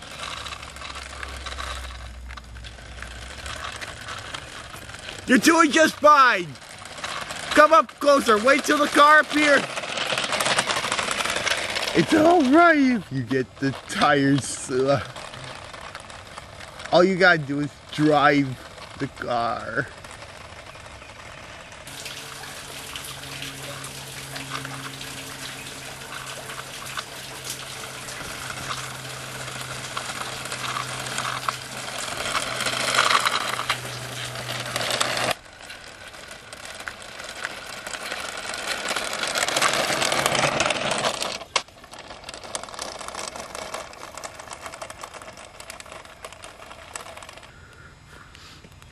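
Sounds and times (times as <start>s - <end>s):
electric motor whirring: 0.0s - 47.5s
wheels crackling over rough ground: 0.0s - 48.9s.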